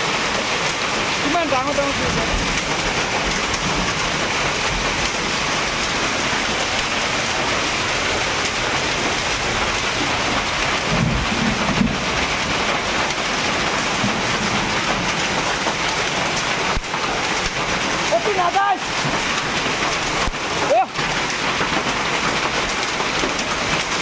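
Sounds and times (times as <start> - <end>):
heavy rain and hail falling: 0.0 - 24.0.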